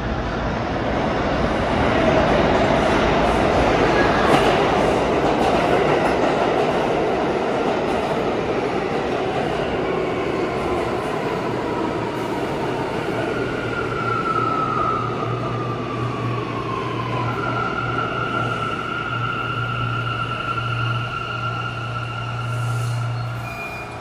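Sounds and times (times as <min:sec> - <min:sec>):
subway train running noise: 0:00.0 - 0:24.0.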